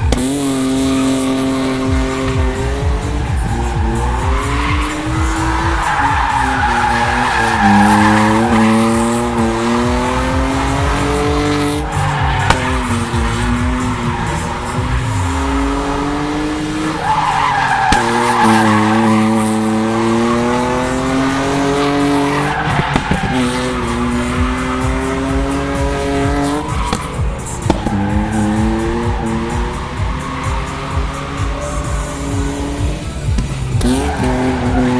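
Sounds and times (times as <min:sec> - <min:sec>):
car engine at high revs: 0:00.0 - 0:34.9
tyre squeal: 0:00.0 - 0:34.9.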